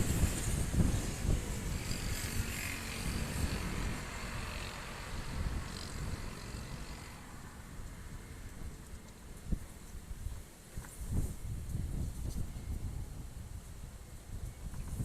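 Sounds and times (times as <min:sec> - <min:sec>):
wind buffeting microphone: 0:00.0 - 0:15.0
wind hiss: 0:00.0 - 0:15.0.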